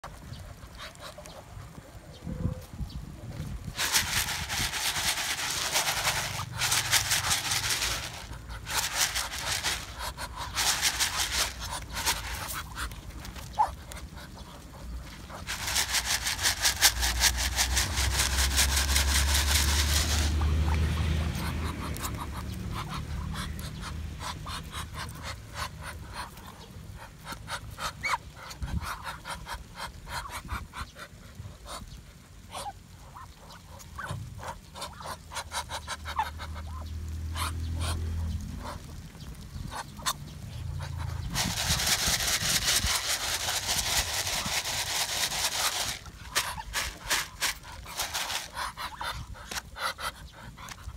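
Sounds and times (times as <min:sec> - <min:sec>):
ducks pecking grain: 0:00.0 - 0:50.9.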